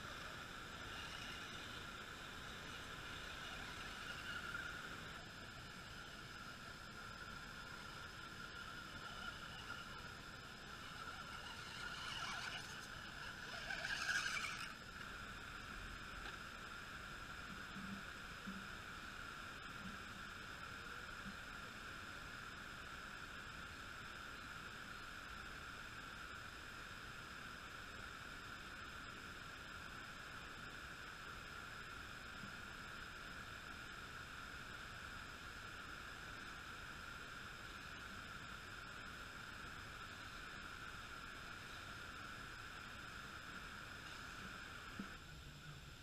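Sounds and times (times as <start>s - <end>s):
electric motor and tyre noise: 0.0s - 46.0s
faint high hum: 0.0s - 46.0s.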